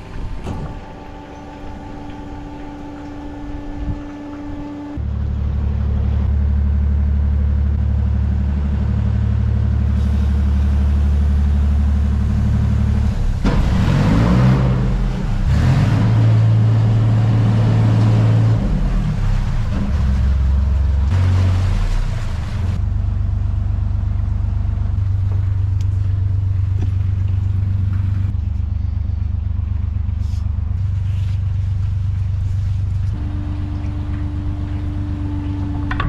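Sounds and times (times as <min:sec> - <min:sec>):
higher steady hum: 0:00.0 - 0:13.6, 0:16.5 - 0:36.0
boat engine running: 0:00.0 - 0:36.0.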